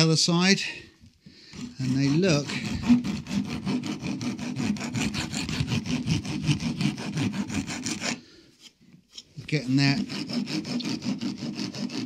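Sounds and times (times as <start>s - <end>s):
wood rasp scraping: 1.4s - 12.0s.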